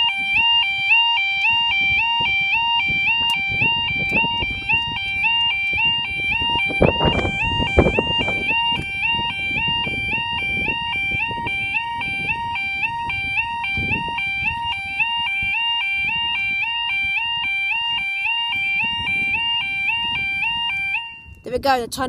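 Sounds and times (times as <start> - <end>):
electronic two-tone alarm: 0.0 - 21.5.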